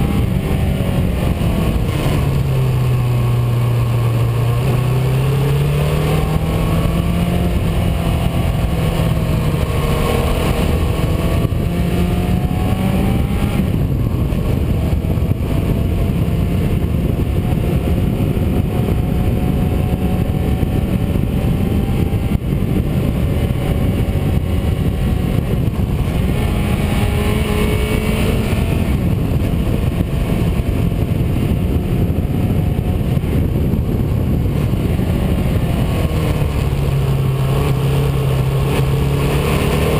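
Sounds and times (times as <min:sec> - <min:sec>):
car engine revving: 0:00.0 - 0:39.9
road and wind noise: 0:00.0 - 0:39.9.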